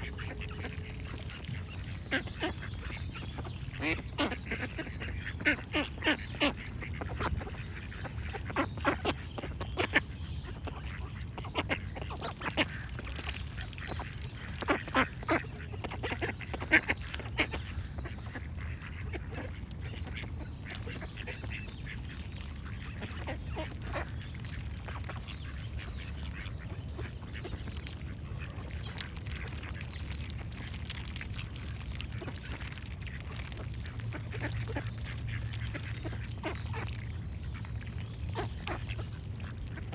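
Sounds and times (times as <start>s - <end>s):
small birds singing: 0.0s - 32.6s, 33.6s - 39.9s
ducks quacking: 0.0s - 39.9s.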